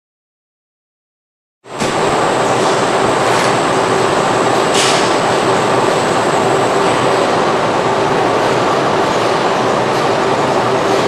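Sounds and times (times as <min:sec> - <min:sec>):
factory machinery drone: 0:01.7 - 0:11.0.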